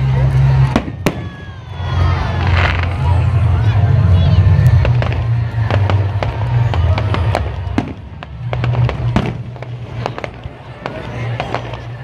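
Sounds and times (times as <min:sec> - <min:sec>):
music with strong bass: 0:00.0 - 0:10.3
fireworks bursting and crackling: 0:00.1 - 0:12.0.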